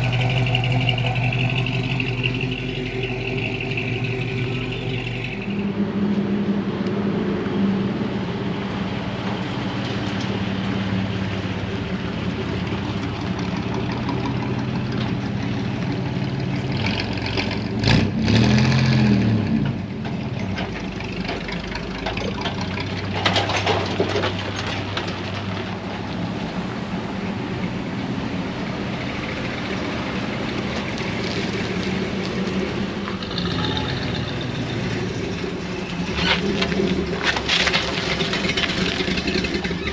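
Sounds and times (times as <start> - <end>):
truck engine idling: 0.0 - 17.8, 19.7 - 39.9.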